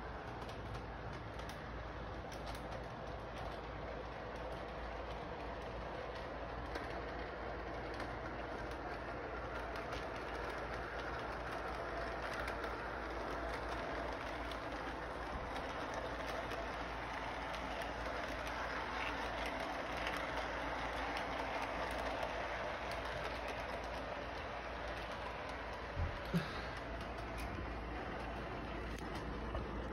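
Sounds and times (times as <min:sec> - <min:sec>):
small wheels whirring on rails: 0:00.0 - 0:29.9
toy train motor hum: 0:00.0 - 0:29.9.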